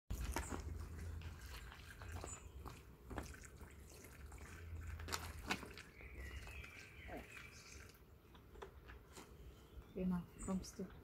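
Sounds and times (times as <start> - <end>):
water splashing and trickling: 0.1 - 9.1.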